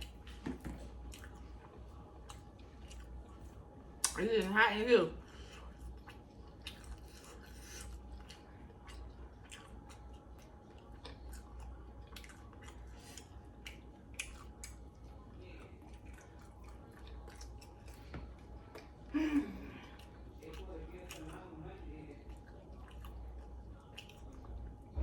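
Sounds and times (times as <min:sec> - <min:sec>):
person eating and chewing: 0:00.0 - 0:04.5, 0:05.2 - 0:25.0
low steady hum: 0:00.0 - 0:25.0.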